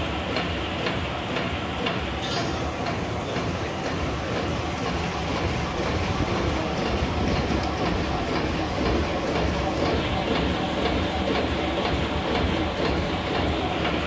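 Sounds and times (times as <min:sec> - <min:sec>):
printing press running: 0:00.0 - 0:14.0.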